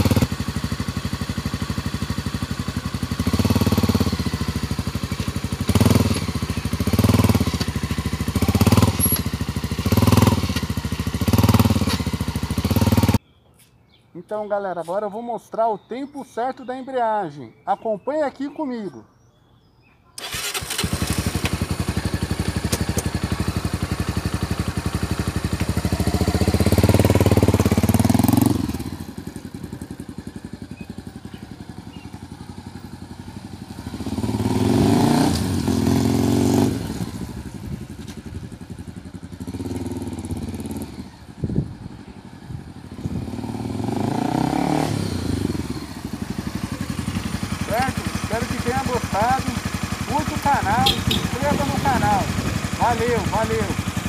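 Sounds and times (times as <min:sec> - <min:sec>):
motorcycle engine running: 0:00.0 - 0:13.2, 0:20.3 - 0:54.0.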